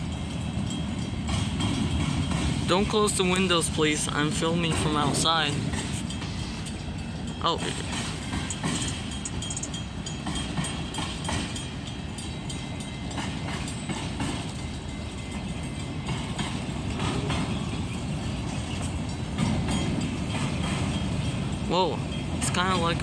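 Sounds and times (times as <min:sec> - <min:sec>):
irregular clacks of train wheels: 0:00.0 - 0:23.0
train wheels rumbling on rails: 0:00.0 - 0:23.0.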